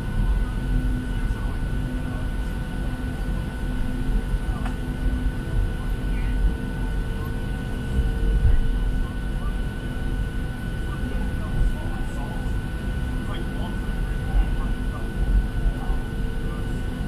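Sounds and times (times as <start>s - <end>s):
jet engine low rumble: 0.0s - 17.0s.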